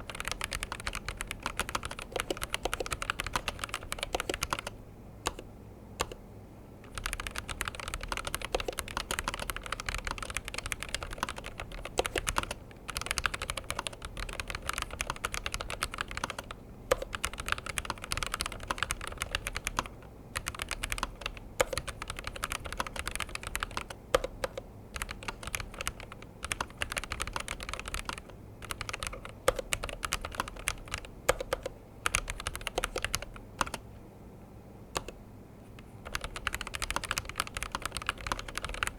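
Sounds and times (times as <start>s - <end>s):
mechanical keyboard typing: 0.0s - 6.2s, 6.8s - 33.8s, 35.0s - 35.2s, 36.0s - 38.9s.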